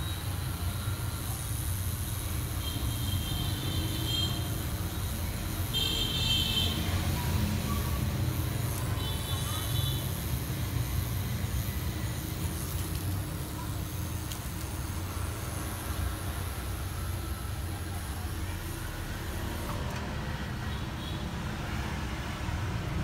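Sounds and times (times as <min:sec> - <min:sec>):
tattoo machine humming: 0:00.0 - 0:23.0.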